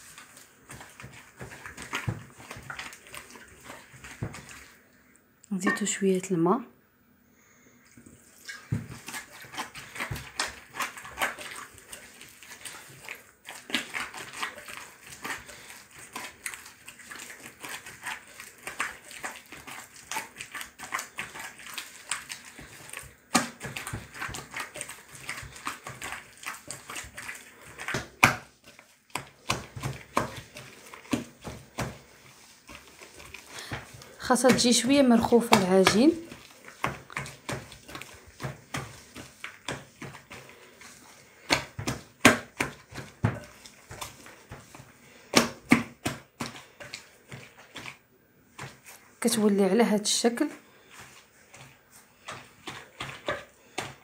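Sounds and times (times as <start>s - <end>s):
sticky dough squelches: 0.0s - 6.6s, 7.8s - 54.0s.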